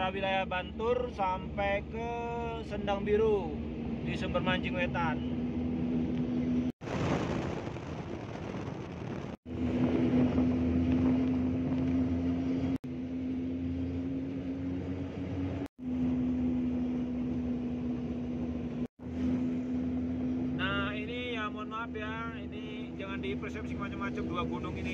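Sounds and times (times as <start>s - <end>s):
vehicle engine drone: 0.0s - 24.9s.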